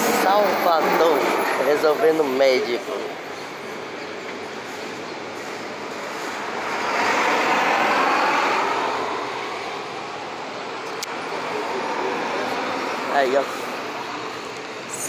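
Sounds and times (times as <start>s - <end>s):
road traffic noise: 0.0s - 15.0s
vehicle passing: 0.0s - 15.0s.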